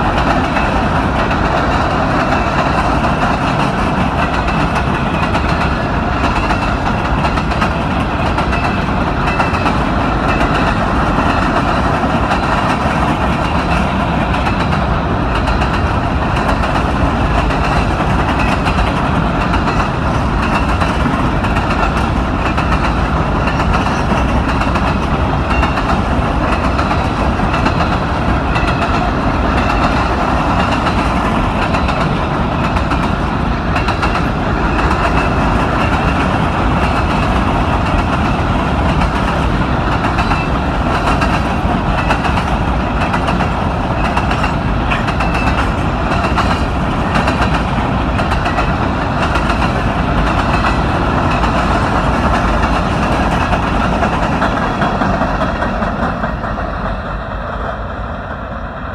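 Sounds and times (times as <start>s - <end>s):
freight train wheels rumbling on rails: 0.0s - 58.9s.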